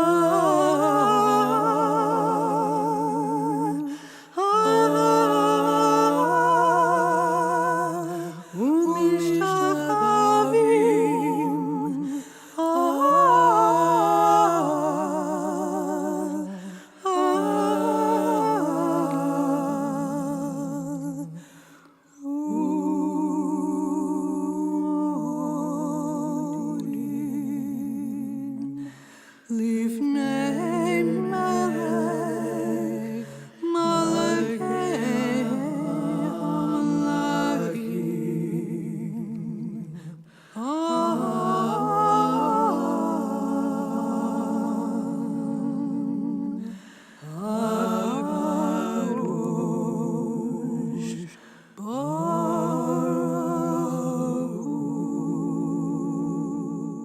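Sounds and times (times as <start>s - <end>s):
wordless vocal melody with vibrato: 0.0s - 57.0s.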